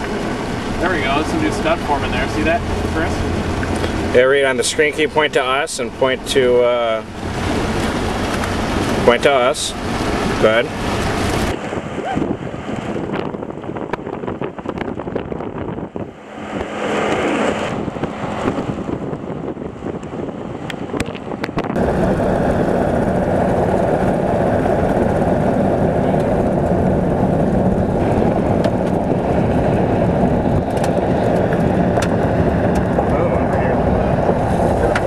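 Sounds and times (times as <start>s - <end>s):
vehicle rumble: 0.0s - 35.0s
wind noise on microphone: 0.0s - 35.0s.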